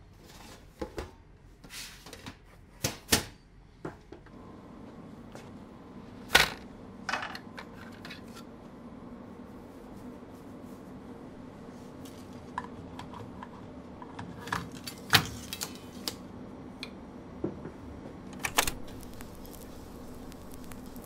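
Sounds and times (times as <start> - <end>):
steady low hum: 3.4 - 21.0.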